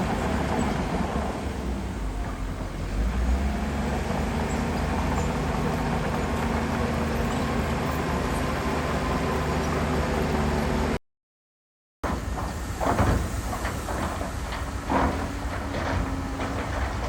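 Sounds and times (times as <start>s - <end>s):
diesel earthmoving machinery running: 0.0s - 11.0s, 12.1s - 17.0s.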